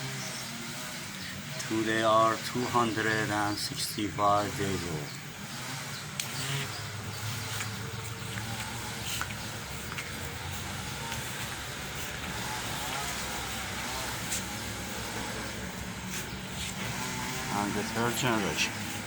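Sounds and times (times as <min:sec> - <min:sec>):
low engine-like hum: 0:00.0 - 0:19.0.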